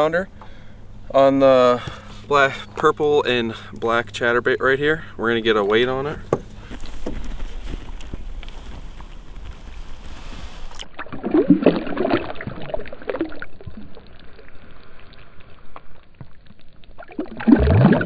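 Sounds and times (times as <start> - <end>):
water splashing: 0.6 - 18.0.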